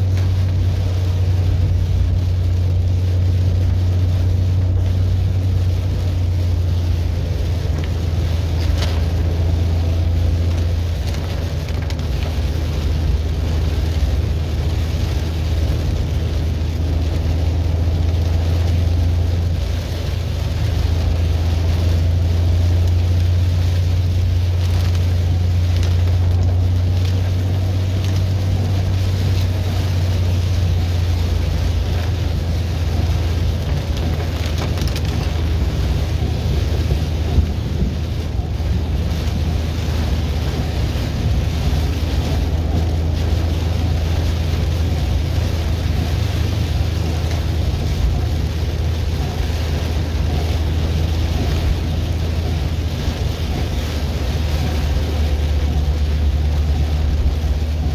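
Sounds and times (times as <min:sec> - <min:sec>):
engine and road noise drone: 0:00.0 - 0:57.9
rain on car: 0:00.0 - 0:57.9
tyres hissing on wet road: 0:00.0 - 0:57.9.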